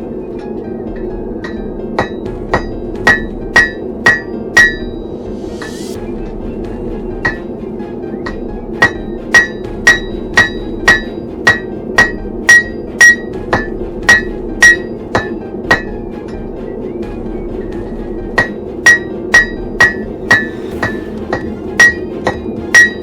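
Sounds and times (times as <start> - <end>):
forge roaring: 0.0 - 22.8
hammer striking steel on anvil: 0.2 - 6.0, 6.8 - 7.6, 8.2 - 16.6, 17.6 - 23.0.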